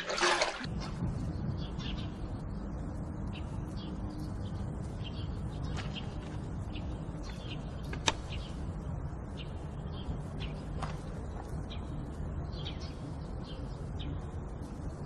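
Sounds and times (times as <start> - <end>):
low steady outdoor rumble: 0.0 - 15.0
small birds chirping: 1.0 - 15.0.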